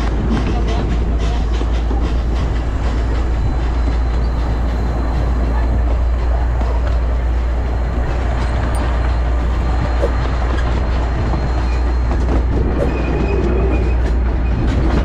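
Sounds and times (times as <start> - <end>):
train cars rumbling on track: 0.0 - 15.0.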